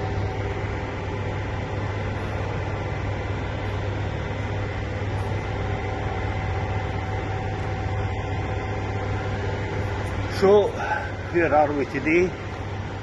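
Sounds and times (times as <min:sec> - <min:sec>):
railway station mechanical hum: 0:00.0 - 0:13.0.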